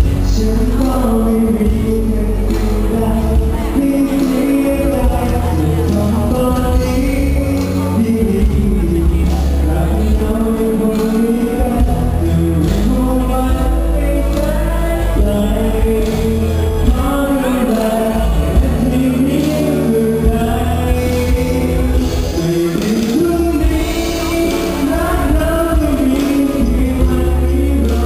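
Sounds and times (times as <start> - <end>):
live band playing: 0.0 - 28.0
man singing: 0.0 - 28.0.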